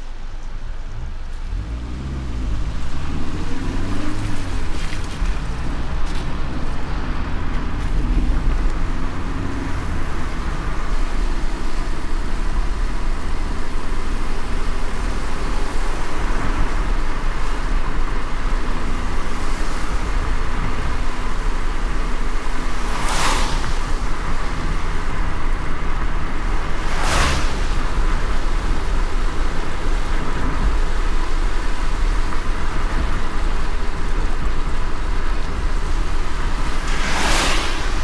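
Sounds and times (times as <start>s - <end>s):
car road rumble: 0.0s - 38.0s
tyres hissing on wet road: 0.0s - 38.0s.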